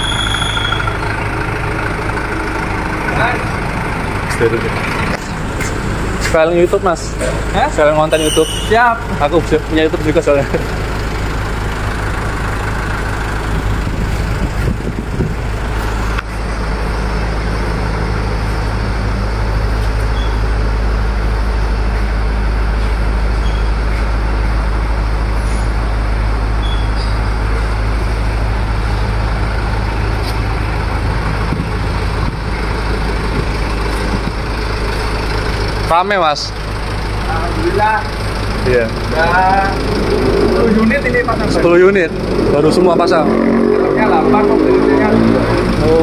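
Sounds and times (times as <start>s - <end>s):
vehicle engine idling: 0.0s - 46.0s.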